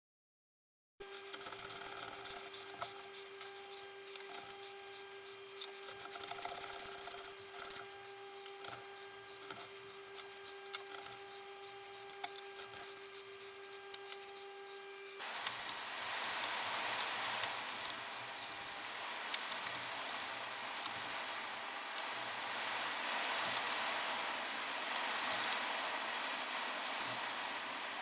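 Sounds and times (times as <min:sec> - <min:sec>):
steady high hum: 0:01.0 - 0:28.0.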